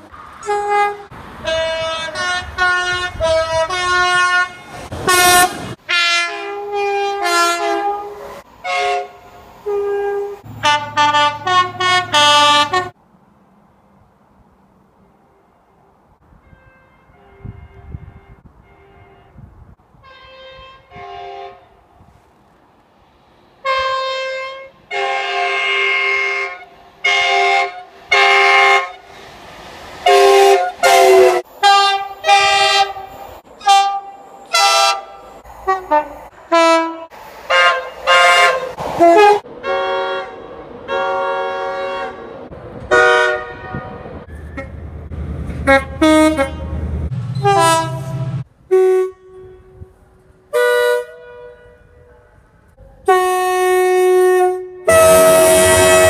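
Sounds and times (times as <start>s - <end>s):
passing train rumble: 0.0s - 56.0s
two-tone train horn blasts: 0.4s - 13.0s, 16.4s - 21.8s, 23.6s - 29.1s, 30.0s - 44.8s, 45.6s - 56.0s.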